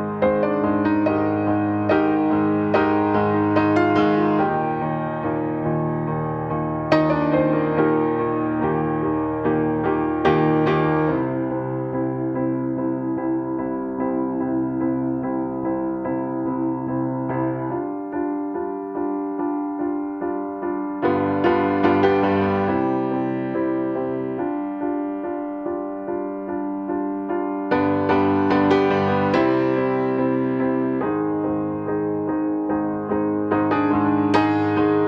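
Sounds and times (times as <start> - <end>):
soft piano music: 0.0 - 35.0.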